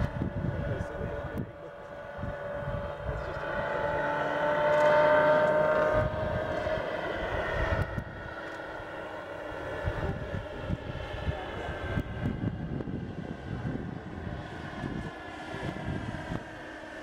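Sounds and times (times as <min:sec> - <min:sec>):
model helicopter turbine whine: 0:00.0 - 0:17.0.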